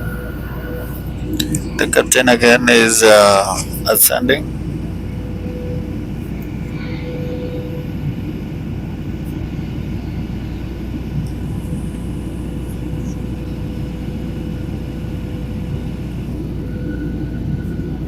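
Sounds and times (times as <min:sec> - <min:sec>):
airflow noise in cabin: 0:00.0 - 0:18.0
airliner engine drone: 0:00.0 - 0:18.0
faint steady hum: 0:00.0 - 0:18.0.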